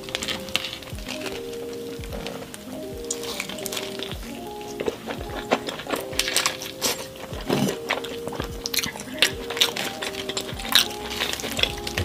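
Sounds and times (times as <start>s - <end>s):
background music: 0.0s - 12.0s
person chewing pizza: 0.0s - 12.0s.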